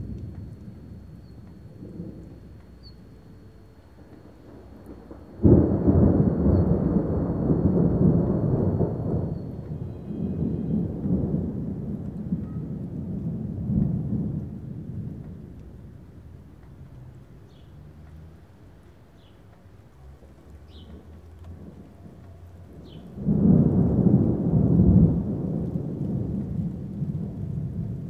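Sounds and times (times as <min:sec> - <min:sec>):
thunder clap and rumble: 0:00.0 - 0:28.0.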